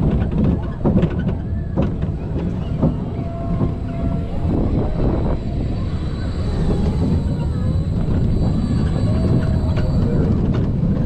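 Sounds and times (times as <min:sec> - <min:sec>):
roller coaster train rumbling: 0:00.0 - 0:11.0
wind buffeting microphone: 0:00.0 - 0:11.0.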